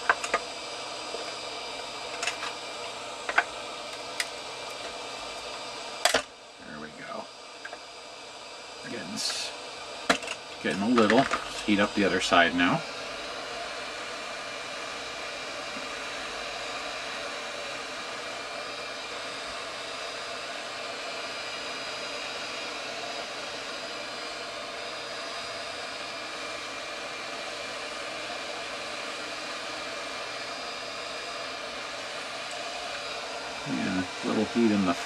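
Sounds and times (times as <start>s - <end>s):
faint high fan whine: 0.0s - 35.0s
heat gun blowing air: 0.0s - 35.0s.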